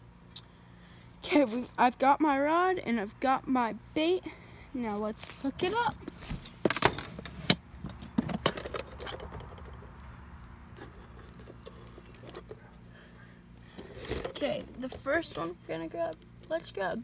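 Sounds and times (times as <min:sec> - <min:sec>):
high drone of insects: 0:00.0 - 0:17.0
low outdoor background: 0:00.0 - 0:17.0.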